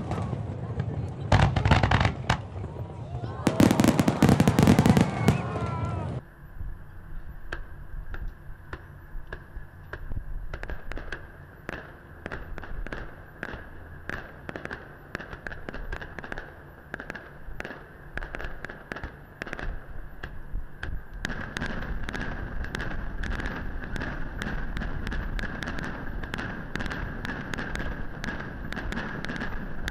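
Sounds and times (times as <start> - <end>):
fireworks bangs and crackles: 0.0 - 6.8, 7.4 - 29.9.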